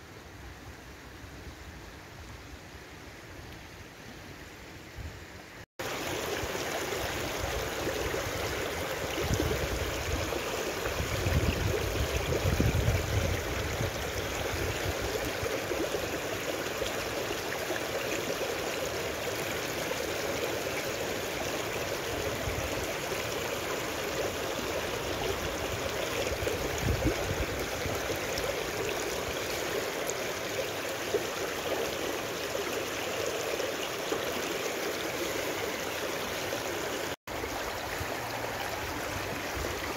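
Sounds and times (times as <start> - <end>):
stream rushing over stones: 5.8 - 39.9.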